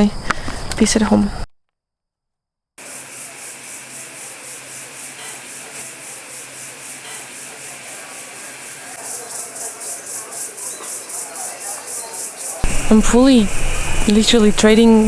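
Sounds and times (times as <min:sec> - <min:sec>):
cicadas buzzing: 0:00.0 - 0:01.4, 0:02.8 - 0:15.0.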